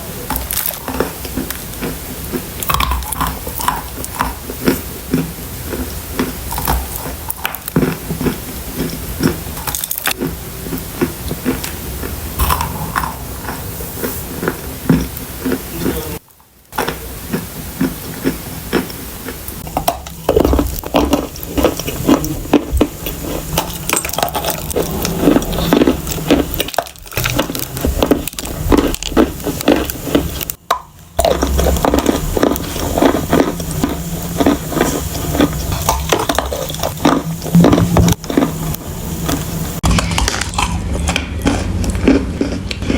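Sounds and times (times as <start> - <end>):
crunching and chewing clay: 0.0 - 42.9.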